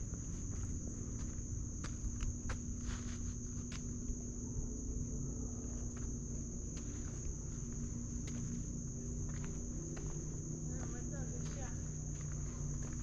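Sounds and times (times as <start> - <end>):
footsteps on dirt trail: 0.0 - 4.3, 5.7 - 13.0
crickets trilling: 0.0 - 13.0.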